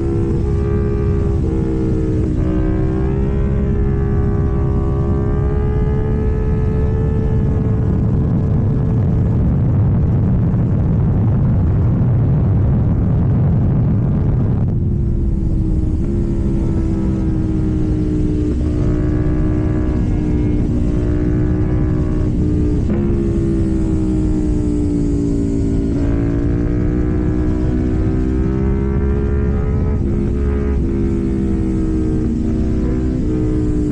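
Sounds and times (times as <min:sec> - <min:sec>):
motorcycle engine running: 0:00.0 - 0:33.9
wind noise: 0:00.0 - 0:33.9.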